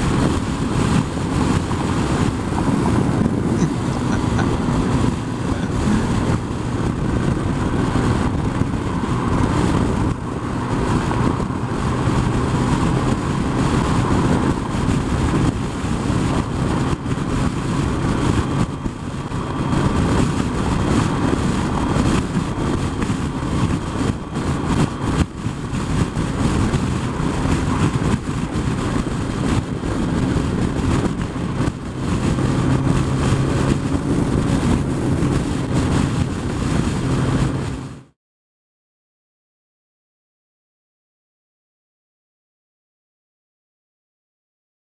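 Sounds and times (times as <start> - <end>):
motorcycle engine cruising: 0.0 - 38.2
wind and road noise: 0.0 - 38.2.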